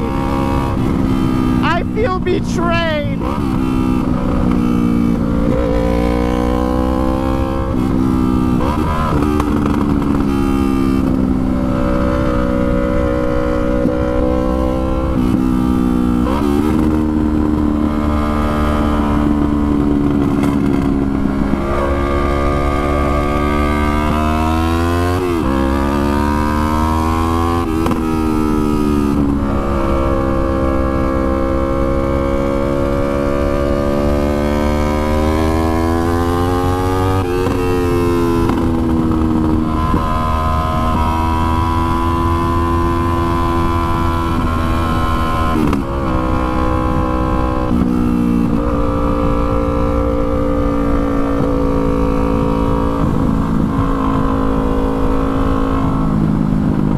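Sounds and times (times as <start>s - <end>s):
motorcycle engine shifting gears: 3.2s - 56.9s.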